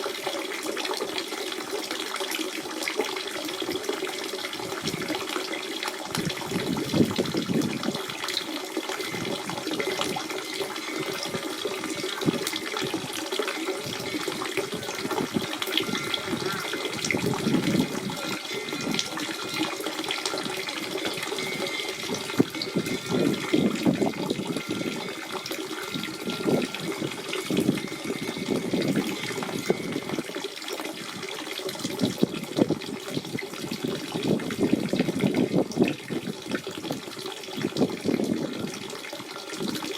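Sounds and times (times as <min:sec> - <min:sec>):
spring water running and splashing: 0:00.0 - 0:39.9.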